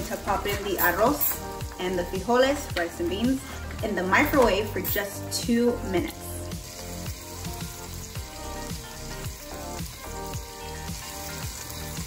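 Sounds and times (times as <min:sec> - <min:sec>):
background music with steady beat: 0:00.0 - 0:12.0
meat sizzling in a pot: 0:00.0 - 0:12.0.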